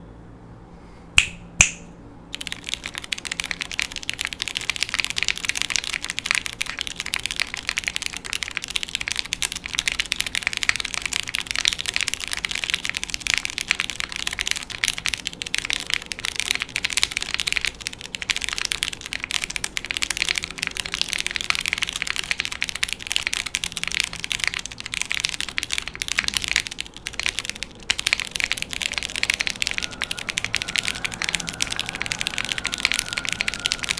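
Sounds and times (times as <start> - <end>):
faint steady hum: 0.0 - 33.9
sharp clicks: 1.2 - 33.9
mechanical keyboard typing: 1.6 - 33.9.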